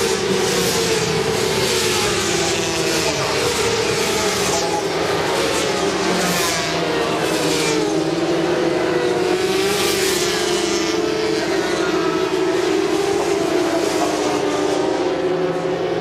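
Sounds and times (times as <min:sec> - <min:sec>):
racing motorcycles passing by: 0:00.0 - 0:16.0.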